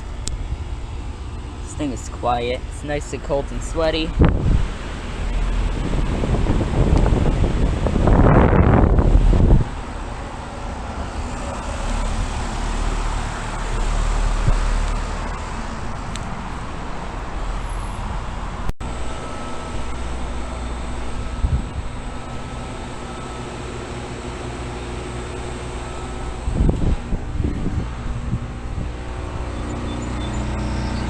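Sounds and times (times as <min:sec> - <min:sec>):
fan whoosh: 0:00.0 - 0:17.1, 0:18.9 - 0:31.0
low compressor hum: 0:00.0 - 0:31.0.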